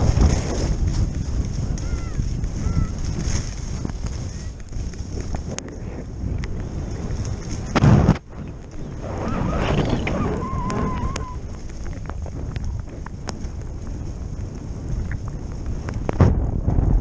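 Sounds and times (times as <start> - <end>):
skis scraping over packed snow: 0.0 - 17.0
wind rushing over camera: 0.0 - 17.0.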